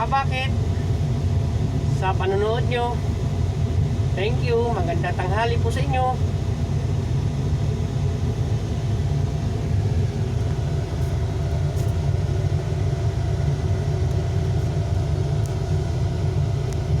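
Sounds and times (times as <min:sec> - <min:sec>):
excavator diesel engine rumbling: 0:00.0 - 0:17.0
faint steady whine: 0:00.0 - 0:17.0.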